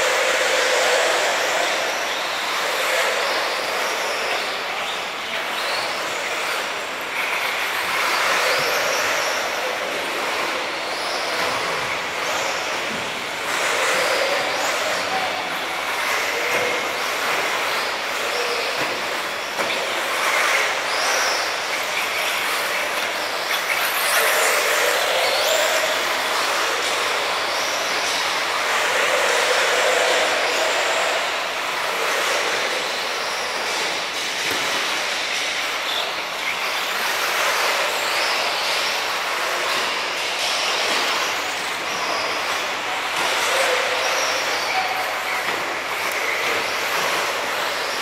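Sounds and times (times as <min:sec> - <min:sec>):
electric rc cars motors whining: 0:00.0 - 0:48.0.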